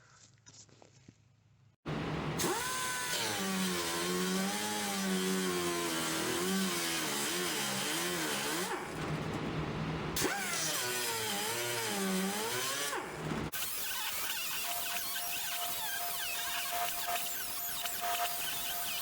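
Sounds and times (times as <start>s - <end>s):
power tool cutting sheet metal: 2.4s - 9.3s, 10.2s - 19.0s.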